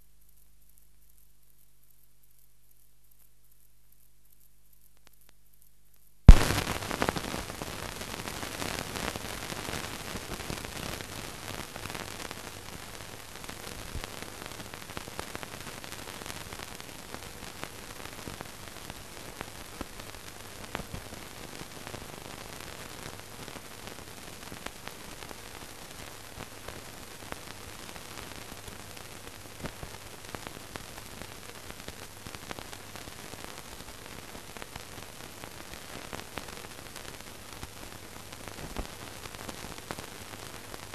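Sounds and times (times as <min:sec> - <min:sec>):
film soundtrack hiss and crackle: 0:00.0 - 0:40.9.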